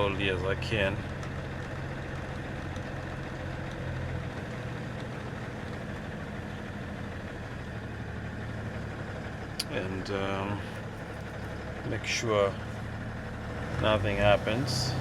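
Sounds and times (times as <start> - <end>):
truck engine running at low revs: 0.0 - 15.0.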